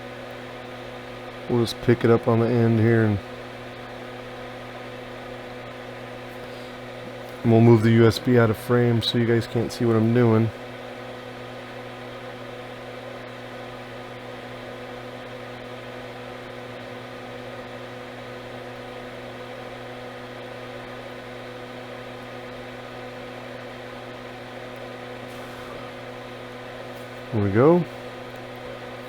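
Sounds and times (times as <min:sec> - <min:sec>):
equipment hum with fan whir: 0:00.0 - 0:29.0.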